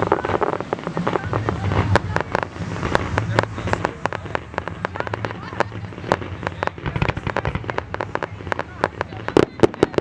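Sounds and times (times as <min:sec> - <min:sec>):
fireworks pops and crackles: 0:00.0 - 0:10.0
low rumble: 0:00.0 - 0:10.0.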